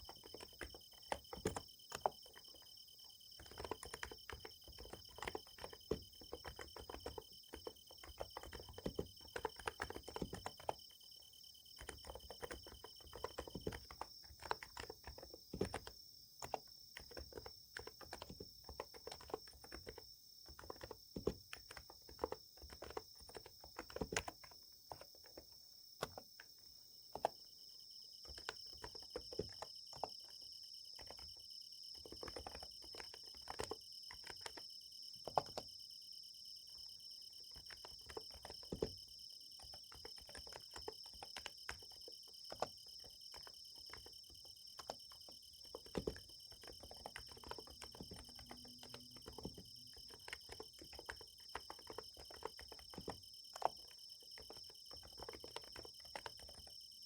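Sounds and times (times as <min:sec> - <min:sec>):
keyboard typing: 0:00.0 - 0:35.8, 0:36.7 - 0:57.0
insects chirring: 0:00.0 - 0:57.0.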